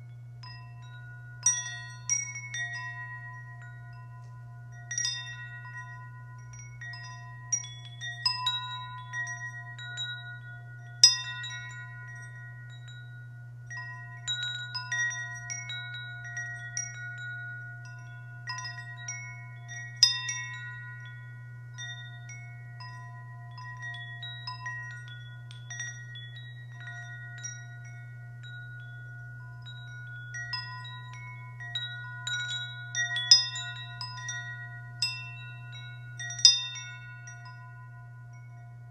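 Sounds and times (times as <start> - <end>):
steady low hum: 0.0 - 38.9
wind chimes ringing: 0.0 - 38.9.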